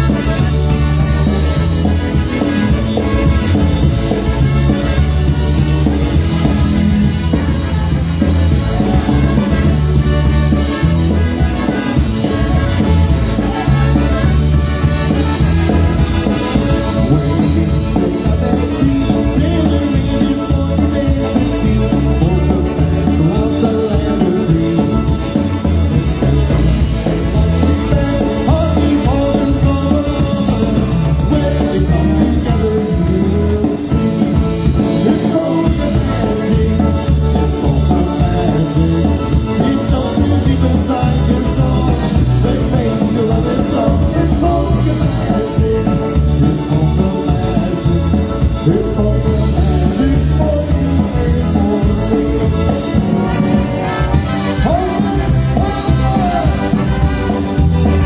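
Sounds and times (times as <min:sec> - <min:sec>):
polka band playing: 0:00.0 - 0:58.0.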